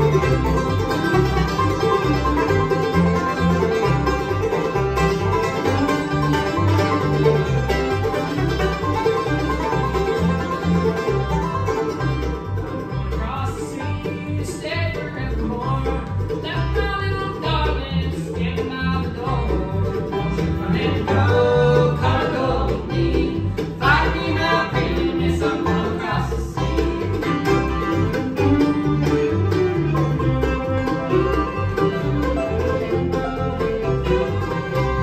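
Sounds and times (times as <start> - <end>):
banjo picking: 0.0 - 35.0
bass line: 0.0 - 35.0
guitar: 0.0 - 35.0.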